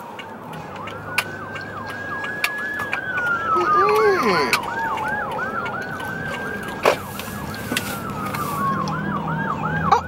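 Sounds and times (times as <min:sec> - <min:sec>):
siren wailing: 0:00.0 - 0:10.0
siren yelping: 0:00.2 - 0:10.0.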